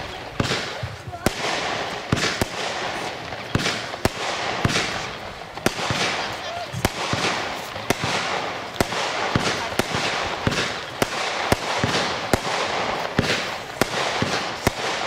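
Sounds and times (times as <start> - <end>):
fireworks firing sharp reports: 0.0 - 15.0.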